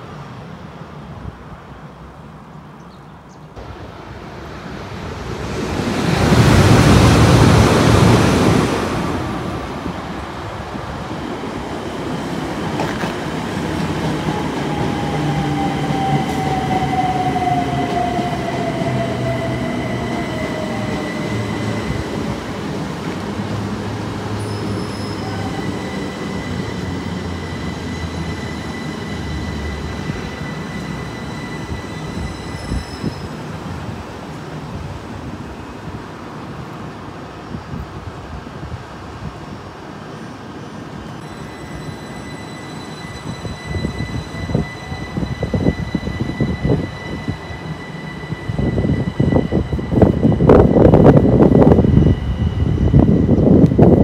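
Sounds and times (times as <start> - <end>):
train rushing past: 3.6 - 54.0
train whine: 3.6 - 54.0.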